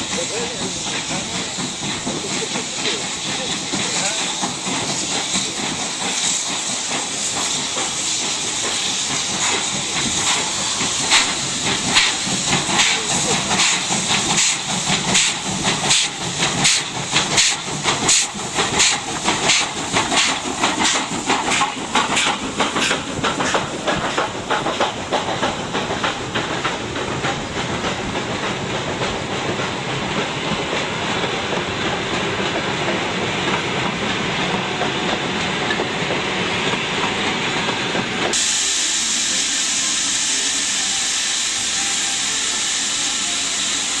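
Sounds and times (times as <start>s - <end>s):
steady hiss of steam: 0.0s - 44.0s
steam locomotive exhaust beats: 0.0s - 44.0s.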